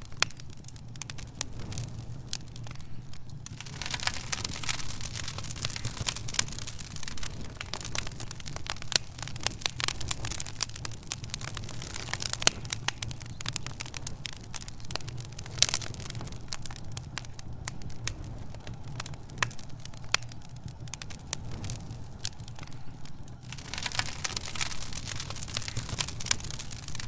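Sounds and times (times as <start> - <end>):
fire pops and snaps: 0.0 - 27.0
steady low rumble: 0.0 - 27.0
wood fire crackling: 0.0 - 27.0.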